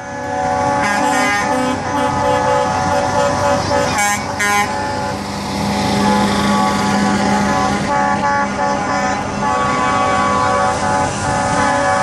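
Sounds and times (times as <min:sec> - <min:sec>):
truck air horns blowing: 0:00.0 - 0:12.0
trucks passing: 0:00.0 - 0:12.0.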